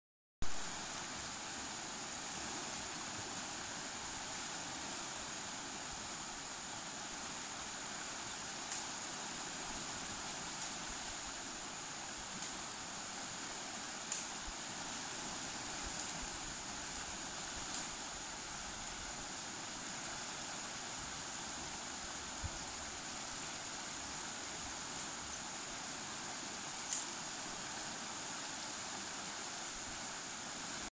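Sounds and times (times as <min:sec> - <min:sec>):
river water rushing over rapids: 0:00.4 - 0:30.9.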